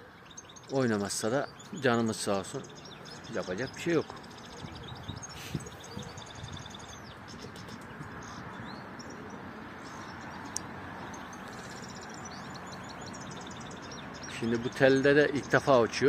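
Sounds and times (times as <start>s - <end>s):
outdoor background rush: 0.0s - 16.0s
small birds chirping: 0.0s - 16.0s.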